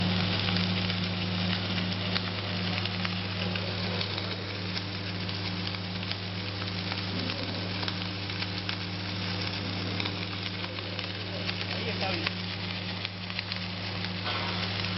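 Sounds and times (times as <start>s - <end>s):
arc welding crackling sizzle: 0.0s - 14.9s
low electrical hum: 0.0s - 14.9s.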